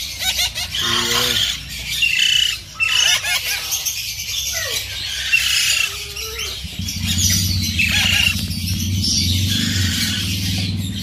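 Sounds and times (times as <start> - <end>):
parrot chick squawking: 0.0 - 8.5, 9.4 - 10.6.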